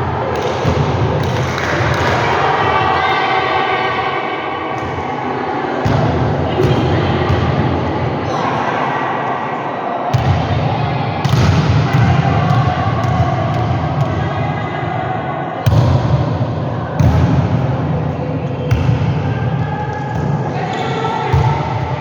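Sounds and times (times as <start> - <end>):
echoing hall background: 0.0 - 22.0.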